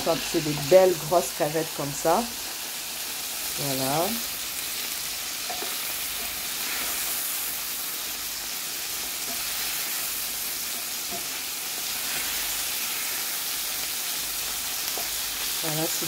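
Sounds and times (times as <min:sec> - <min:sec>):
prawns sizzling in a pan: 0:00.0 - 0:16.0.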